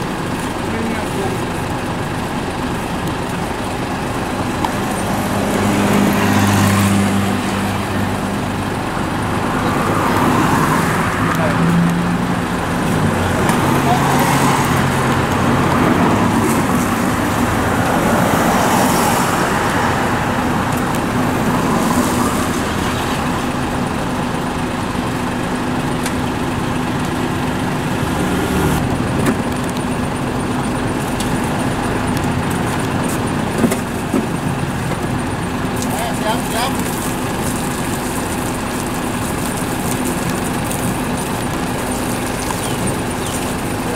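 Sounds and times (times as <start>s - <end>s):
concrete mixer truck engine hum: 0.0s - 43.9s
road traffic rushing past: 0.0s - 43.9s.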